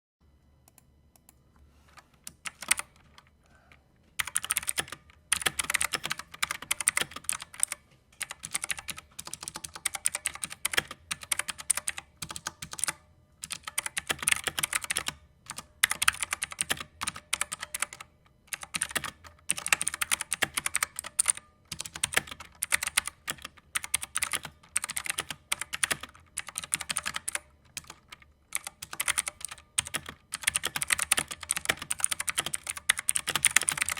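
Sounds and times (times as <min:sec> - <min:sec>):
typing on mechanical keyboard: 0:02.2 - 0:03.3, 0:04.2 - 0:33.9.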